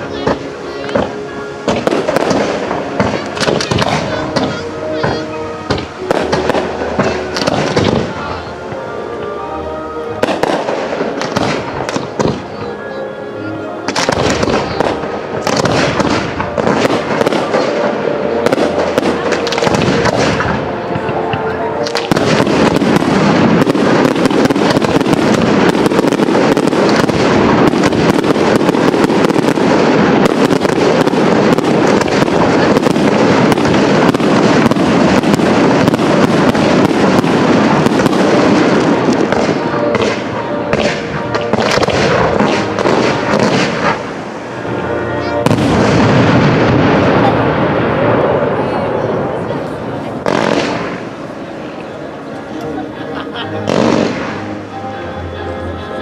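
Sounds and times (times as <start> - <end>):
fireworks bangs and crackling: 0.0 - 13.0, 13.8 - 54.8.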